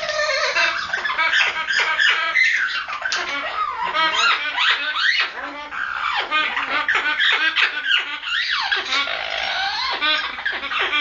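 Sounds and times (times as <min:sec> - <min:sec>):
parrot squawking: 0:00.0 - 0:11.0.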